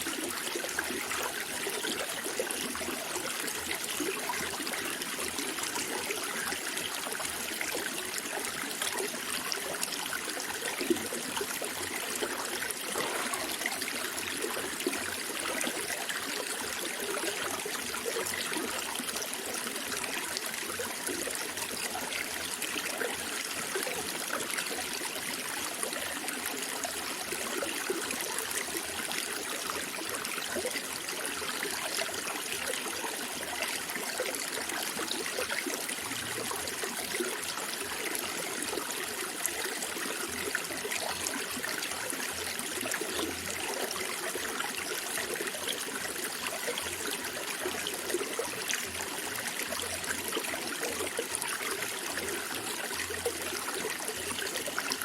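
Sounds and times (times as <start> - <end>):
stream bubbling and trickling: 0.0 - 55.0.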